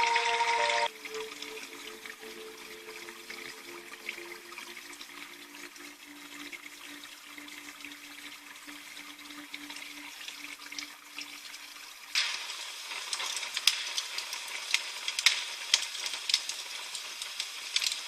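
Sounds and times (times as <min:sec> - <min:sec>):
trickling water: 0:00.0 - 0:18.0.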